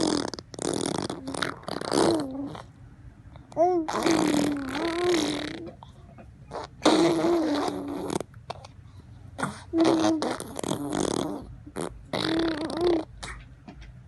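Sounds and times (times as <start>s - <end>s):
baby imitating car engine: 0.0s - 2.8s, 3.4s - 8.8s, 9.4s - 13.5s.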